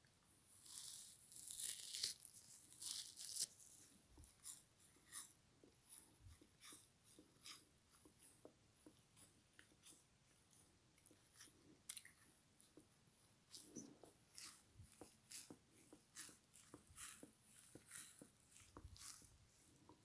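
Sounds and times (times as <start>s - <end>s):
frozen sponge being chewed: 0.6s - 20.0s.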